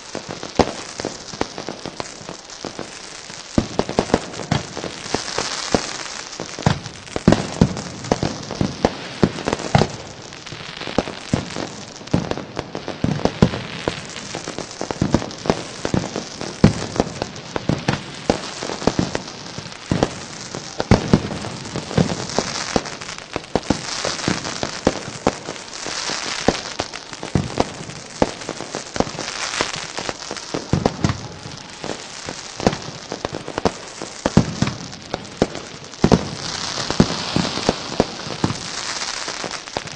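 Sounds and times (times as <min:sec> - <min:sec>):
crackling hiss: 0:00.0 - 0:39.9
fireworks bangs and pops: 0:00.0 - 0:39.9.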